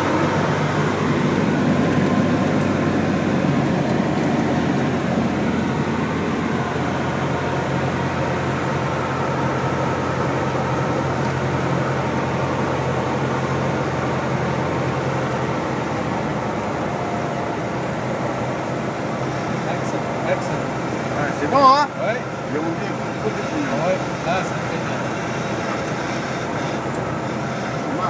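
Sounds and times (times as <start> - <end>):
propeller engine drone: 0.0 - 28.0.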